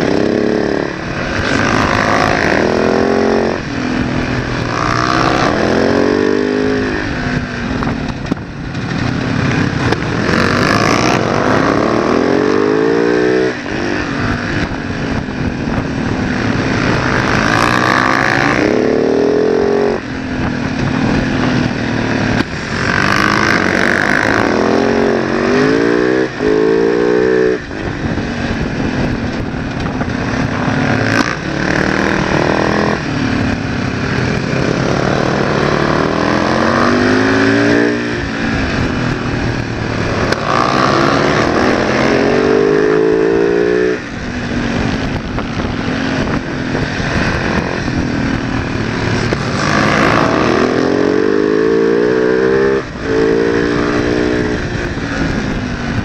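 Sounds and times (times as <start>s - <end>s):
motorcycle engine revving: 0.0s - 56.0s
wind rushing: 0.0s - 56.0s.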